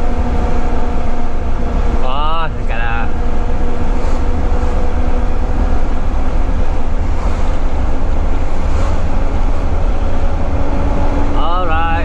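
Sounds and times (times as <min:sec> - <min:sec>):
road and wind noise: 0:00.0 - 0:12.0
truck diesel engine drone: 0:00.0 - 0:12.0.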